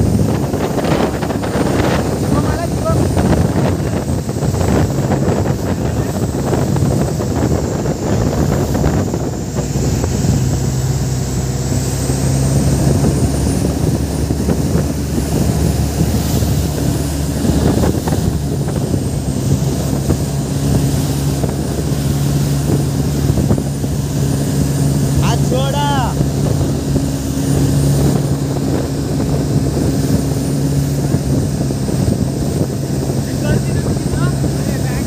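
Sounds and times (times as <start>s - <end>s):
motorboat engine droning: 0.0s - 35.0s
rush of boat wake: 0.0s - 35.0s
wind buffeting microphone: 0.0s - 35.0s.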